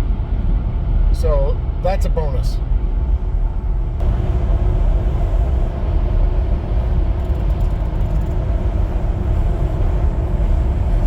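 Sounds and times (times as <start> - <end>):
road and drivetrain rumble: 0.0 - 11.0.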